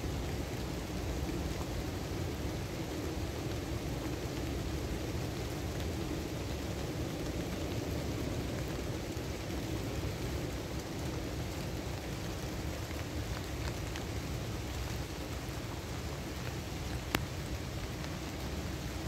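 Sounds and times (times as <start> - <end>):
rain on leaves: 0.0 - 19.0.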